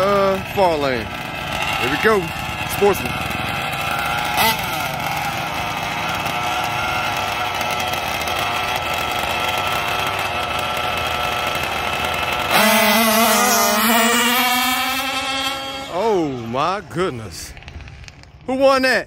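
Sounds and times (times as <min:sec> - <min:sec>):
small two-stroke engines revving: 0:00.0 - 0:18.9.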